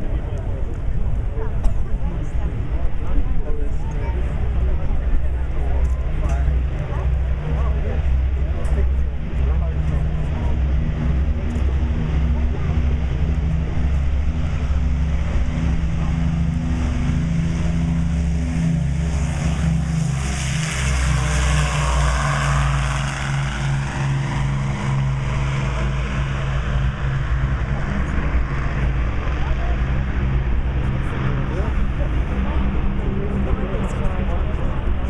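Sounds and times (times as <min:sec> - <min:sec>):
aircraft piston engines droning: 0:00.0 - 0:35.0.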